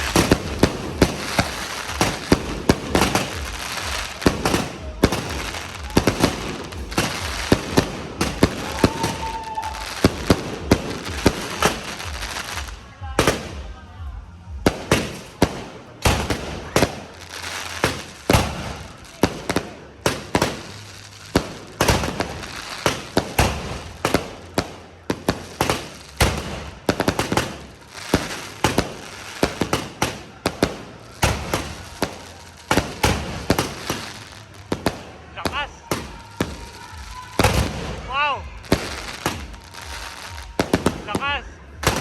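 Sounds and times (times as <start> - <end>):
fireworks bangs: 0.0 - 42.0
fireworks crackling: 0.0 - 42.0.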